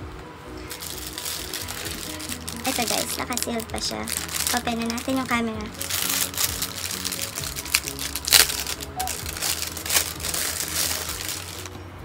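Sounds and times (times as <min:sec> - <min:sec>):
background music: 0:00.0 - 0:12.0
plastic wrapping crinkling: 0:00.6 - 0:11.8.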